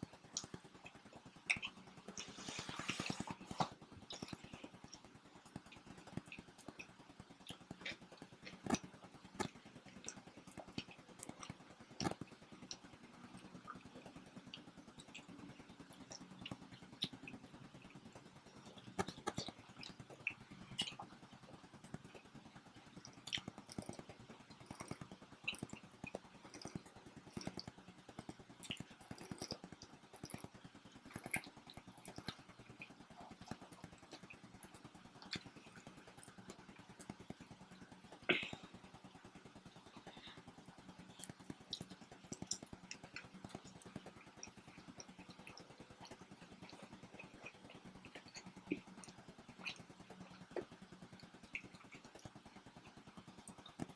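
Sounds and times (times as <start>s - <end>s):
steady low hum: 0.0s - 53.9s
people chewing: 0.3s - 18.0s, 18.6s - 22.2s, 22.9s - 39.2s, 41.0s - 50.7s.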